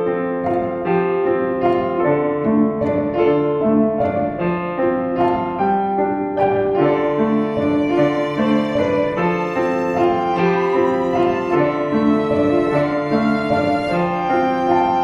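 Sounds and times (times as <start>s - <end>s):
piano and strings music: 0.0s - 15.0s.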